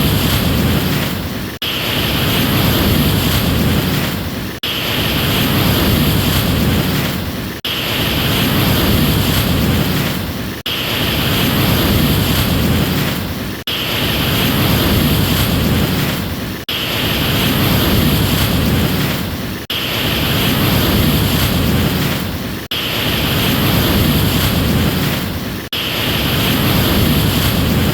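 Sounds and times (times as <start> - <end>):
ocean waves breaking: 0.0 - 27.9.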